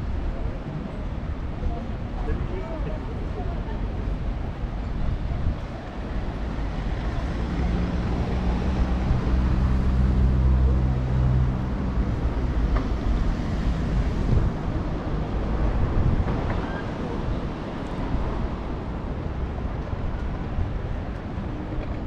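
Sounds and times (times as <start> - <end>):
traffic: 0.0 - 22.0.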